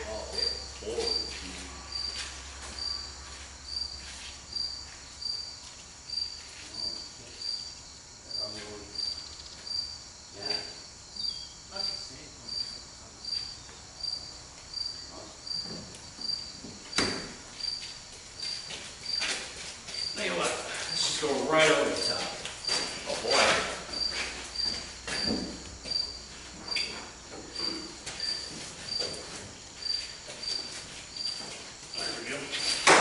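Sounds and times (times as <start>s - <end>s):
cricket chirping: 0.0s - 33.0s.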